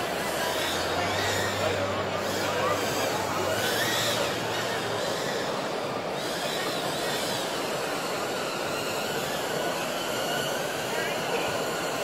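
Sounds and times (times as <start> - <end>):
crowd talking in echoing hall: 0.0 - 12.0.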